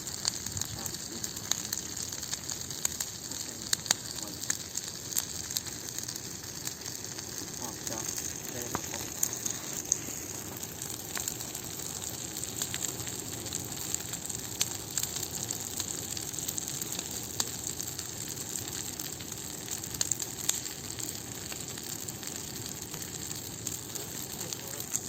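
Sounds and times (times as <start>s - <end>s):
bonfire hissing and crackling: 0.0s - 25.0s
loud fire pops: 0.0s - 25.0s.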